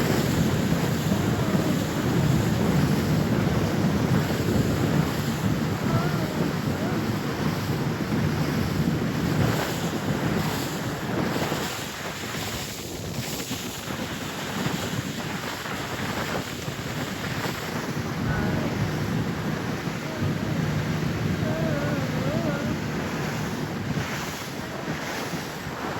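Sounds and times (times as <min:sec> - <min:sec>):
rushing water: 0:00.0 - 0:25.9
wind buffeting microphone: 0:00.0 - 0:25.9.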